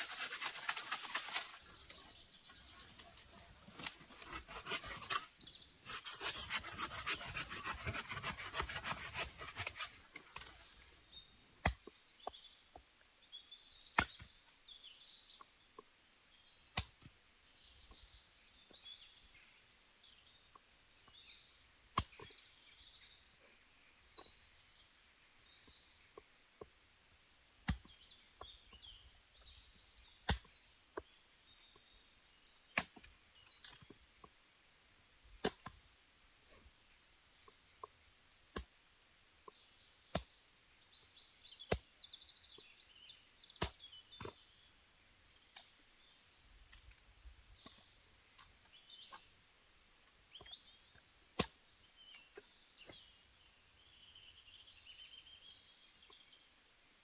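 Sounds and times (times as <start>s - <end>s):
small birds chirping: 0.0s - 26.9s, 27.6s - 57.0s.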